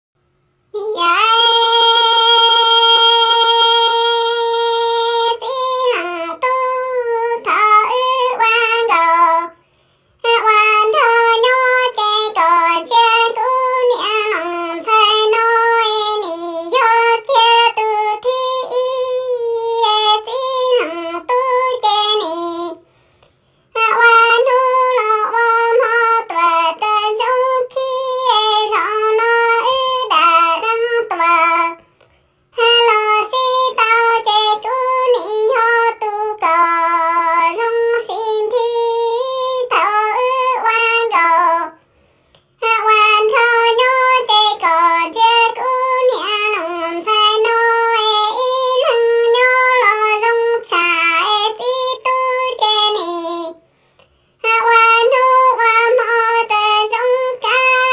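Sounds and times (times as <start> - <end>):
high voice singing unaccompanied: 0.7 - 9.6, 10.2 - 22.9, 23.7 - 31.9, 32.5 - 41.8, 42.6 - 53.7, 54.4 - 57.9.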